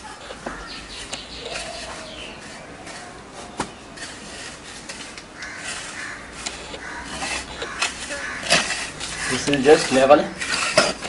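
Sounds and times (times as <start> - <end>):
scraping of mortar being smoothed: 0.8 - 11.0.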